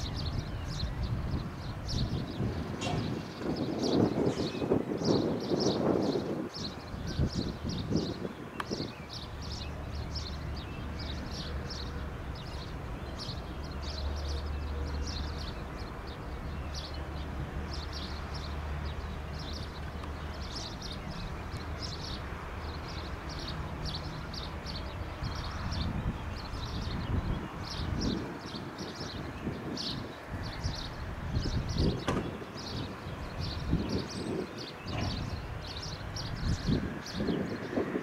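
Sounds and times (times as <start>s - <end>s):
distant jet engines rumbling: 0.0s - 38.0s.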